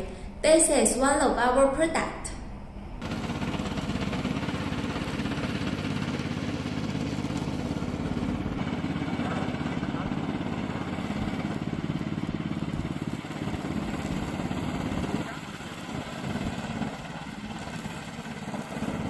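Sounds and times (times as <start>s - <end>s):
lawn mower engine running: 3.0s - 19.0s.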